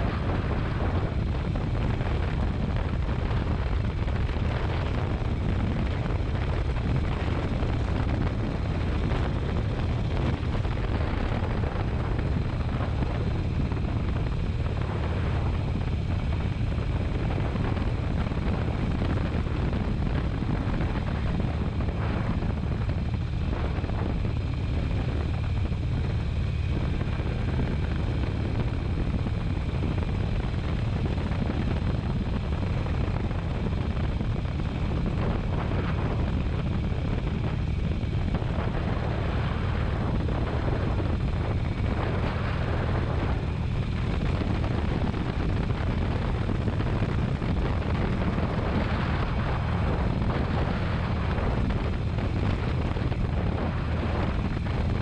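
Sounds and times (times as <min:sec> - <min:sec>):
motorcycle engine droning: 0:00.0 - 0:55.0
wind noise on microphone: 0:00.0 - 0:55.0.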